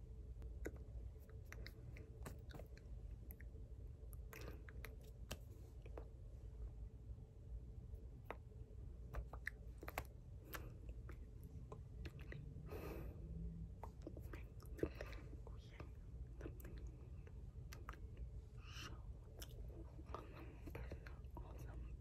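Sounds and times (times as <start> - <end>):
low steady hum: 0.0 - 22.0
clicks and lip smacks: 0.4 - 6.2, 8.2 - 12.8, 13.8 - 21.8.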